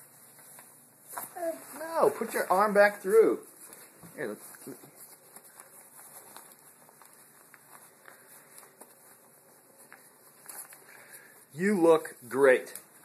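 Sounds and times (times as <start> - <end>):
clothing rustling: 0.0 - 13.0.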